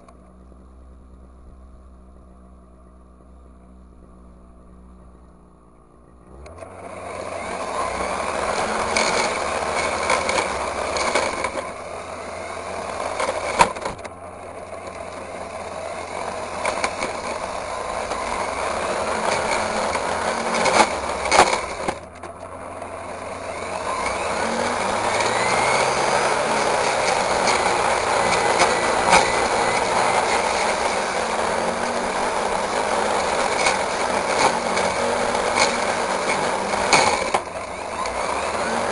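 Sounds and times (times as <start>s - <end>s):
brush cutter engine: 0.0s - 38.9s.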